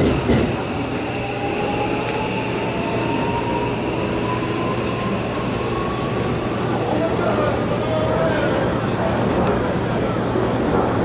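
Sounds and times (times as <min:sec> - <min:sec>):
wheels rumbling on rails: 0:00.0 - 0:11.0.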